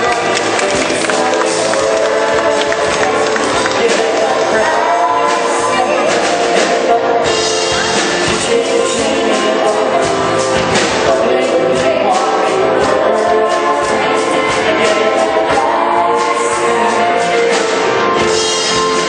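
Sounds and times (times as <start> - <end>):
band playing pop song: 0.0 - 19.0
drum kit beat: 0.0 - 19.0
person singing: 0.0 - 19.0.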